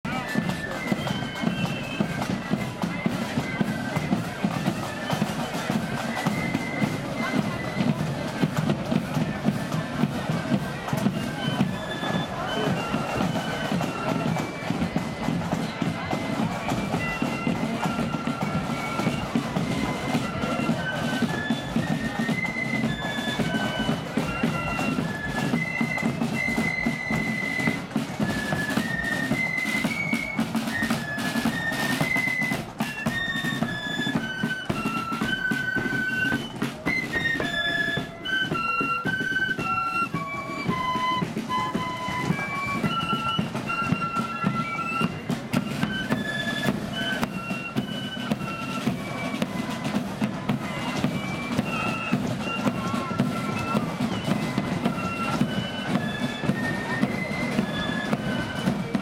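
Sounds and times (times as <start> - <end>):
flute melody: 0.0 - 59.0
side drums: 0.0 - 59.0
cymbals: 0.1 - 59.0.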